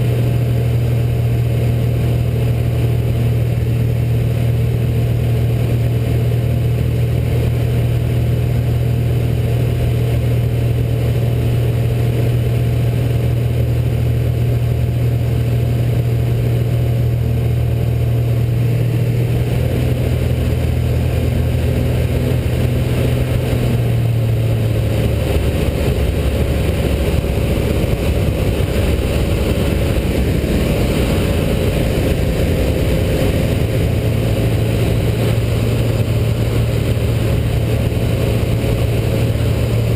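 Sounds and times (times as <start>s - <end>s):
aircraft engine running in flight: 0.0s - 39.9s
airflow over cockpit: 0.0s - 39.9s.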